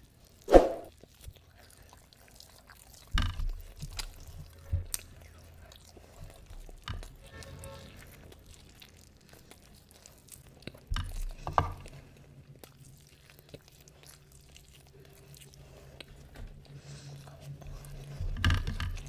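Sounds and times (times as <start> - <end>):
quiet chewing: 0.0 - 19.0.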